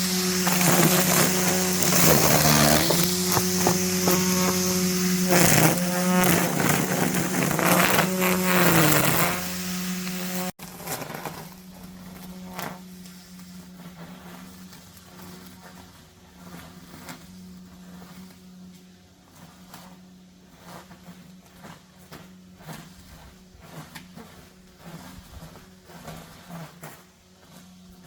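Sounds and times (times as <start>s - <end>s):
brush cutter cutting grass: 0.0s - 28.0s.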